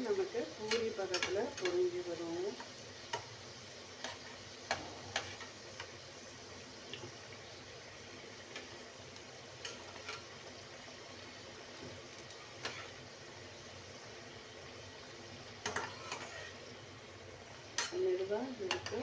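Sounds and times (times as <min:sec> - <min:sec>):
oil sizzling: 0:00.0 - 0:19.0.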